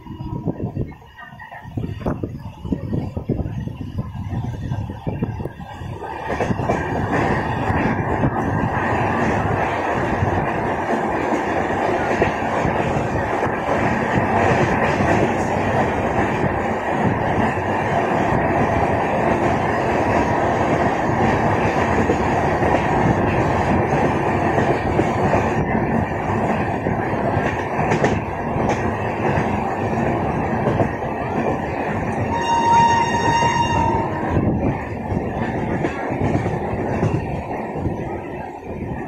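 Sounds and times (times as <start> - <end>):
train wheels on rails: 0.0 - 39.0.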